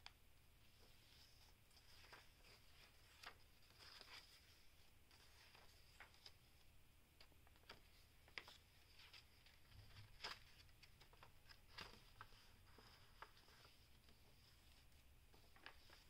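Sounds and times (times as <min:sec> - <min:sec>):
paper pages rustling: 0:00.7 - 0:16.0.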